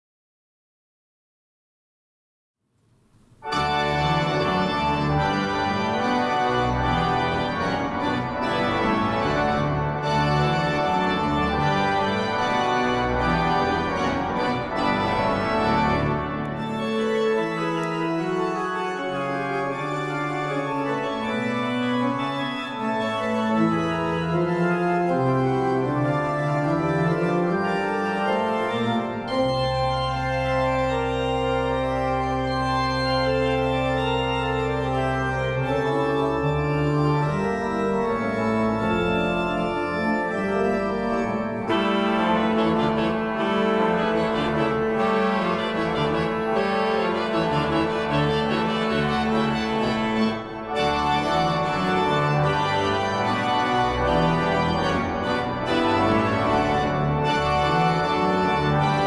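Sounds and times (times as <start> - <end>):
pipe organ playing: 3.3 - 59.0.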